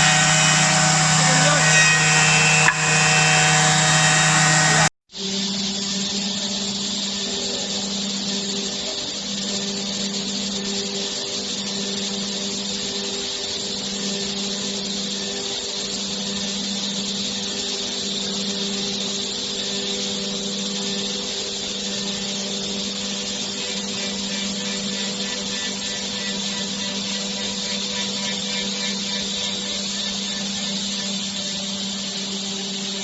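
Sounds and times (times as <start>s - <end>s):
milling machine motor hum: 0.0s - 33.0s.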